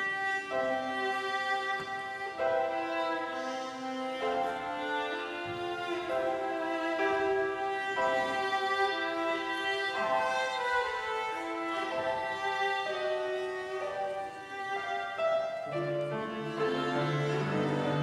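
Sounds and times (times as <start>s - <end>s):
violin playing slow melody: 0.0s - 18.0s.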